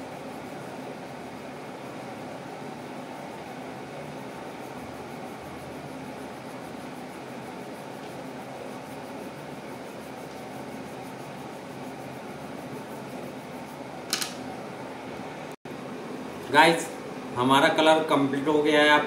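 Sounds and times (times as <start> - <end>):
electric fan running: 0.0 - 19.0.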